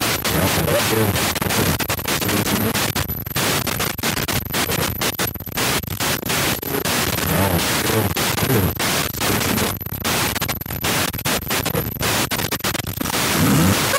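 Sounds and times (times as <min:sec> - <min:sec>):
radio static hiss: 0:00.0 - 0:13.9.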